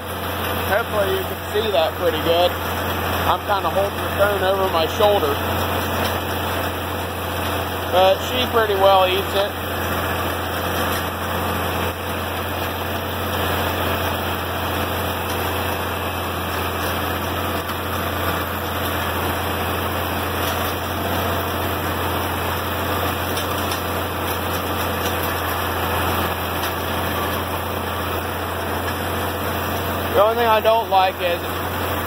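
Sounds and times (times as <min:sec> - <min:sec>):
round baler rolling hay: 0:00.0 - 0:32.0
tractor running under load: 0:00.0 - 0:32.0.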